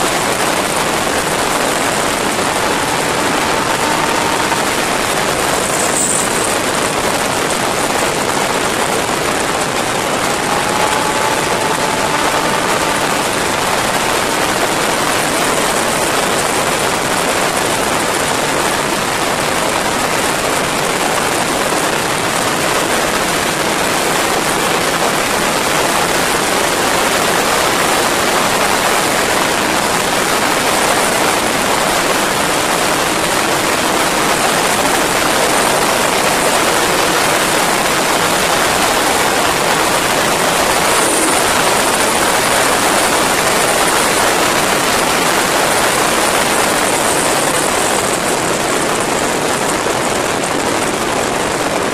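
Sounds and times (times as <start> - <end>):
motorcycle engine running: 0.0 - 51.9
wind rushing on microphone: 0.0 - 51.9.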